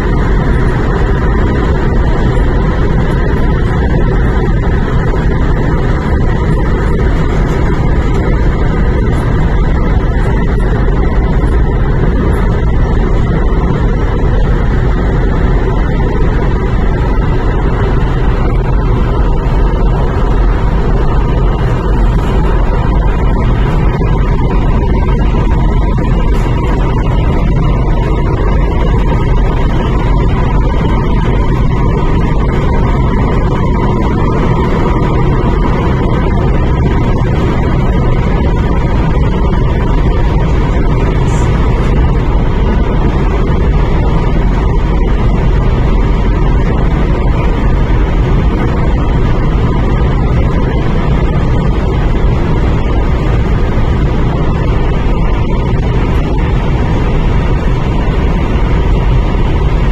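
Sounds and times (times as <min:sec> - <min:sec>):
faint steady whine: 0:00.0 - 0:59.9
train wheels rumbling on track: 0:00.0 - 0:59.9.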